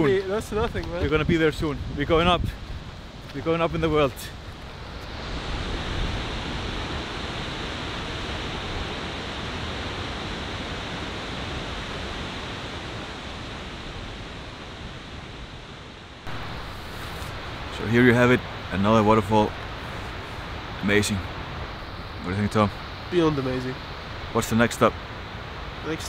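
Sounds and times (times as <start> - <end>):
waterfall rushing: 3.9 - 26.0.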